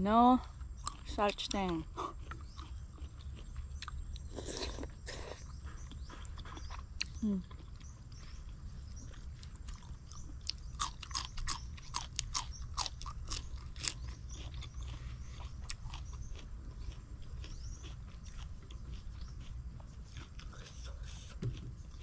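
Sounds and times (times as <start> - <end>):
steady low hum: 0.0 - 22.0
chewing and crunching: 0.1 - 22.0.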